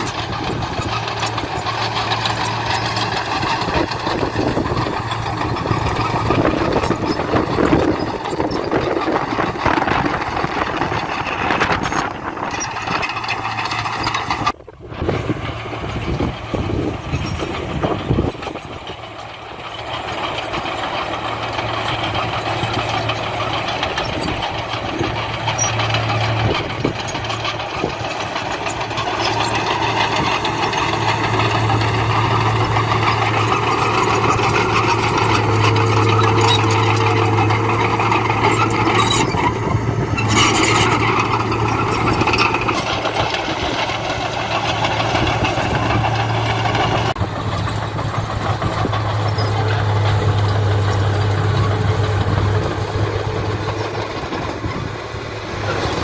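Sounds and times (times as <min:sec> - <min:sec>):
heavy machinery diesel engines: 0:00.0 - 0:56.0
low engine hum: 0:00.0 - 0:56.0.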